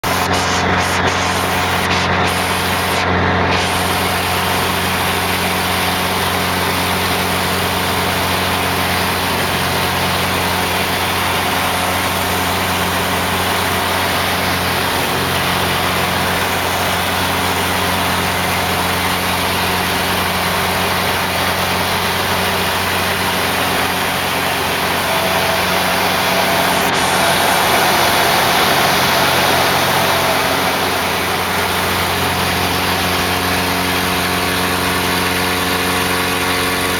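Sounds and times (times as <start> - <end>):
higher engine tone: 0.0 - 36.9
propeller plane engine droning: 0.0 - 36.9.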